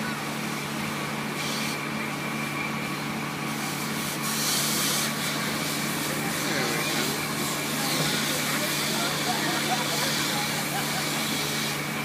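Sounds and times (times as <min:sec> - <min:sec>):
fire engine running: 0:00.0 - 0:12.0
fire hose spraying water: 0:00.0 - 0:12.0.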